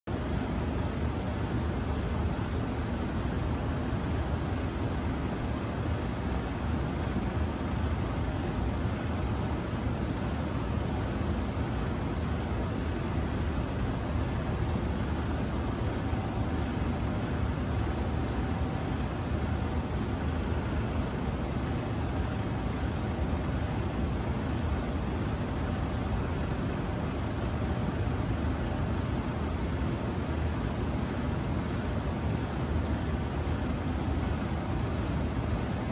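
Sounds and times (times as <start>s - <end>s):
low hum with hiss: 0.0s - 35.9s.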